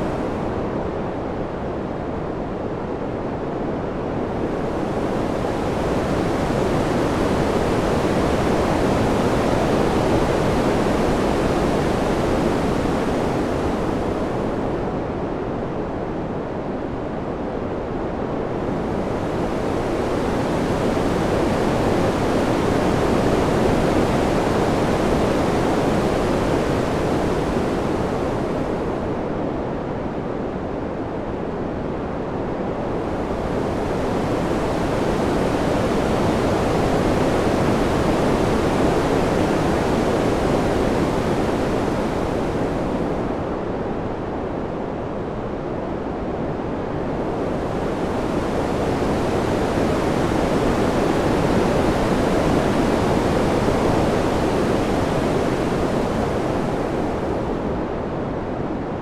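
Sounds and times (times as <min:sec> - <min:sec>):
rushing wind: 0:00.0 - 0:59.0.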